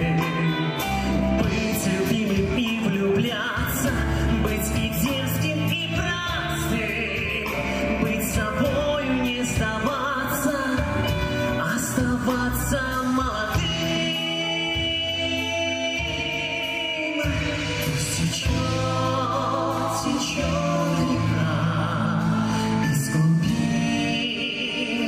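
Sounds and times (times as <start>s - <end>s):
acoustic guitar: 0.0s - 25.0s
drum kit with cymbal hits: 0.0s - 25.0s
keyboard: 0.0s - 25.0s
men singing together: 1.5s - 25.0s.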